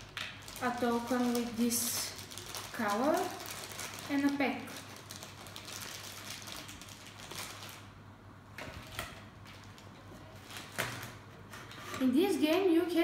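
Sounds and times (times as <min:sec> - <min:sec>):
plastic bag crinkling: 0:00.0 - 0:08.0, 0:08.6 - 0:11.3.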